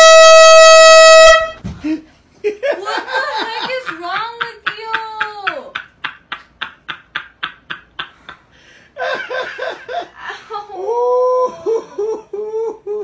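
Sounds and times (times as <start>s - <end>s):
person laughing: 1.8s - 13.0s.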